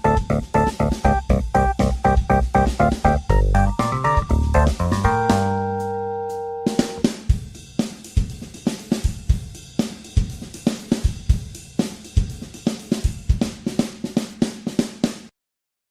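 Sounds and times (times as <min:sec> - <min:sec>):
drum kit playing a beat: 0:00.0 - 0:15.3.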